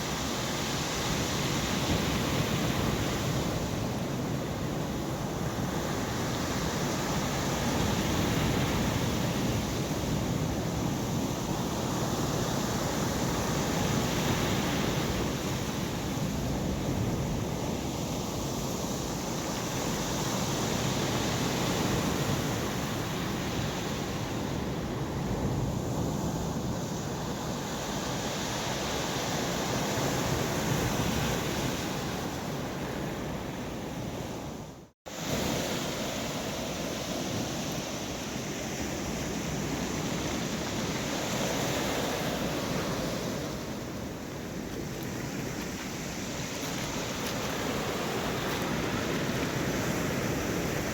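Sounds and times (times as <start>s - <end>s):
sea waves breaking on shore: 0.0s - 50.9s.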